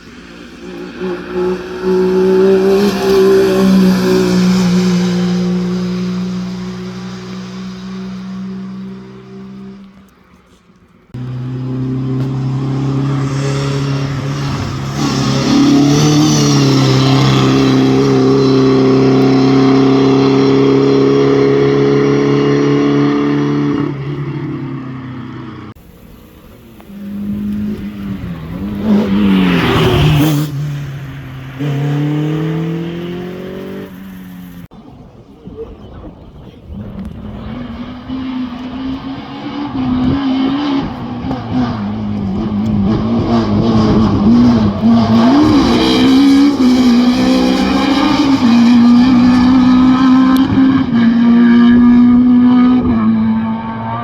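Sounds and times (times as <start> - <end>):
car passing by: 0.0 - 34.7, 36.8 - 54.0
rally car engine revving: 0.0 - 34.7, 36.5 - 54.0.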